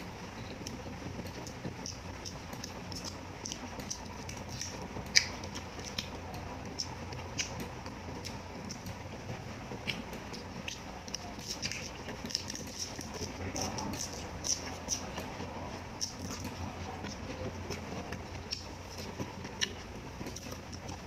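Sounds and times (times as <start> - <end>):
chewing with mouth clicks: 0.0 - 21.0.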